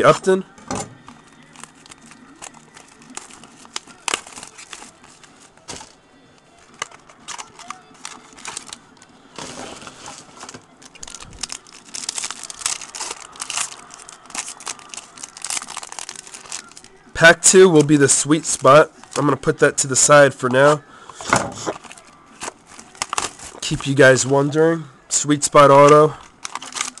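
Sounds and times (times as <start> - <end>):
foil wrapper crinkling and tearing: 1.1 - 6.0, 6.6 - 27.0.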